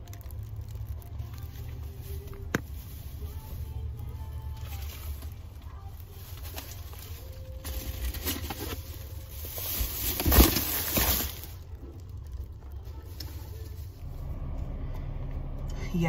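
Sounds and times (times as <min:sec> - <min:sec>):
plastic bags rustling: 0:00.0 - 0:14.0
low steady rumble: 0:00.0 - 0:16.0.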